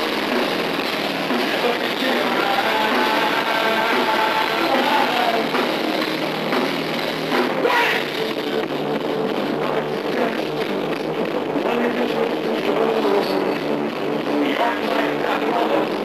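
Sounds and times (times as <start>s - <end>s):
electric guitar: 0.0s - 16.0s
heavy metal band playing live: 0.0s - 16.0s.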